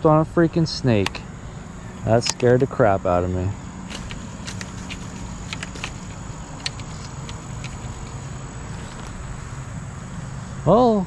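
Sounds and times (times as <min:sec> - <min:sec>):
lawnmower engine humming: 0:00.0 - 0:11.0.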